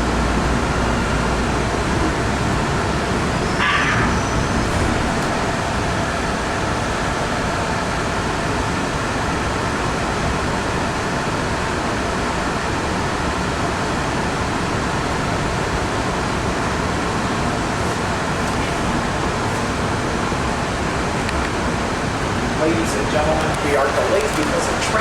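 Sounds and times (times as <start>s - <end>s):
subway car hiss and rumble: 0.0s - 25.0s.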